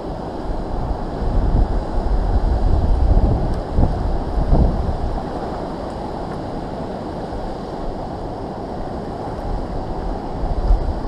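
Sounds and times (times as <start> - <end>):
river current rushing: 0.0 - 11.0
wind noise on microphone: 0.0 - 11.0.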